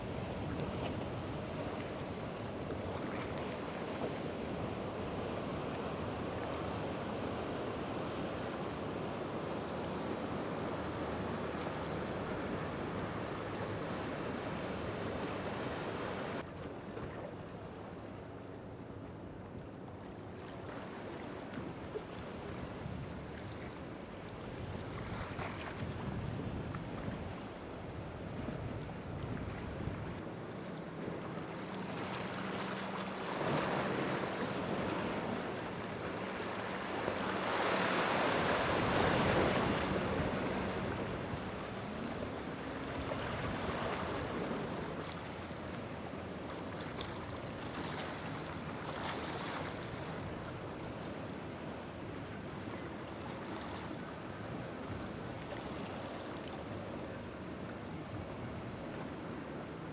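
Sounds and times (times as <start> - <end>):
boat outboard engines droning: 0.0 - 59.9.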